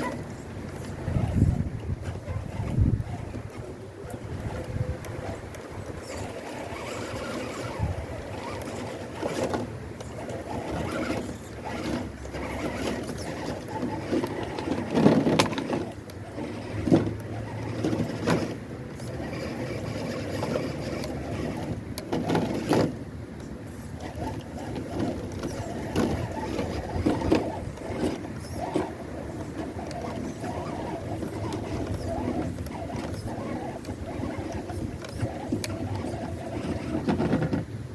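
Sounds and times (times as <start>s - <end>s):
small electric motor whirring: 0.0s - 37.5s.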